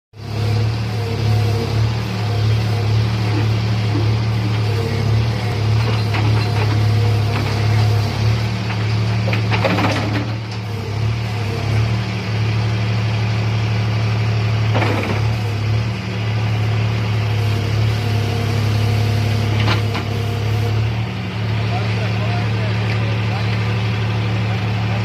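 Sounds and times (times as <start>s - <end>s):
tractor diesel engine running: 0.2s - 25.0s.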